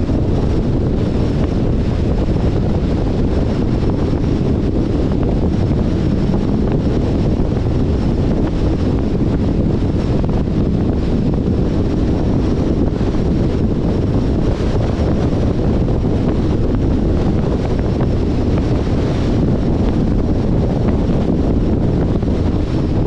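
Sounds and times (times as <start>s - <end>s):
car road noise rumble: 0.0s - 23.0s
wind rushing over microphone: 0.0s - 23.0s.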